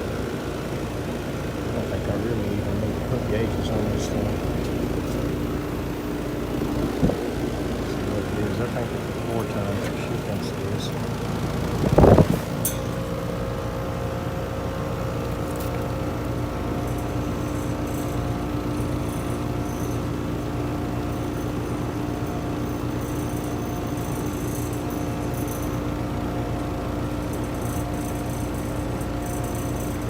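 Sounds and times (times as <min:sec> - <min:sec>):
air conditioner compressor humming: 0:00.0 - 0:30.0
condenser fan rushing: 0:00.0 - 0:30.0.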